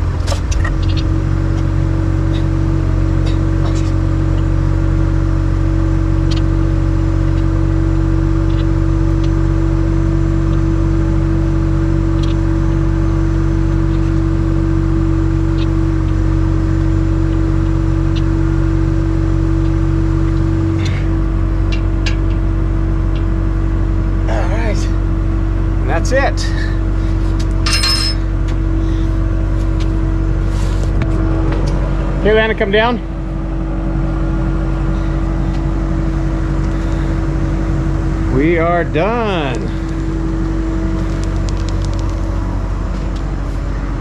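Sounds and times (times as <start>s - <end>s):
loader engine idling: 0.0s - 44.0s.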